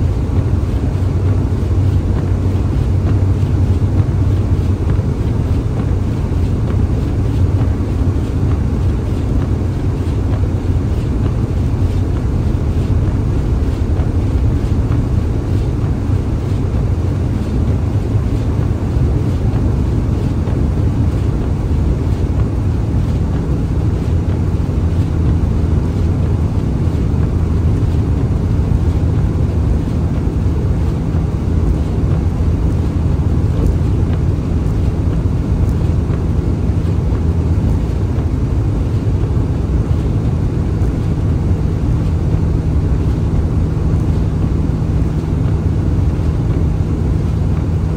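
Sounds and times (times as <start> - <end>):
road and engine rumble: 0.0 - 47.9
steady hum: 0.0 - 47.9.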